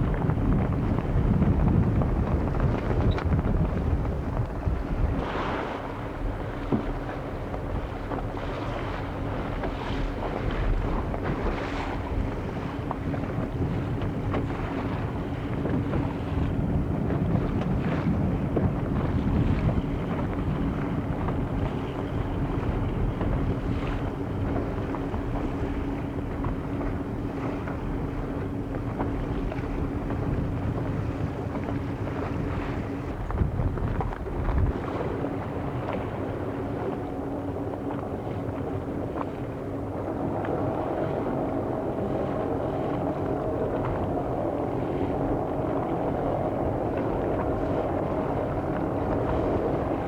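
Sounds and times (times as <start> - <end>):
motorboat engine humming: 0.0 - 50.0
wind noise on microphone: 0.0 - 50.0.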